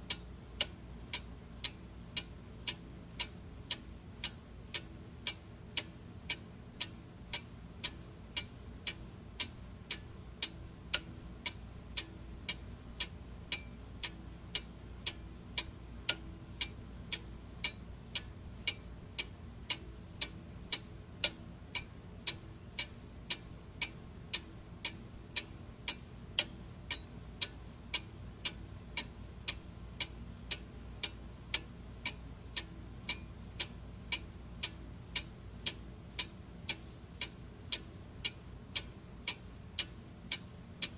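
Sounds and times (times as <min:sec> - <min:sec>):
clock ticking: 0:00.0 - 0:40.9
faint low hum: 0:00.0 - 0:40.9.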